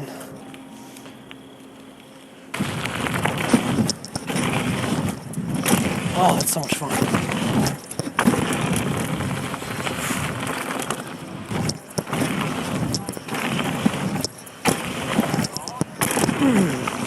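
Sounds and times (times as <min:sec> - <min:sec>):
bicycle tyres on ground: 0:00.0 - 0:17.0
bike knocks and rattles: 0:02.5 - 0:17.0
wind buffeting microphone: 0:02.6 - 0:17.0.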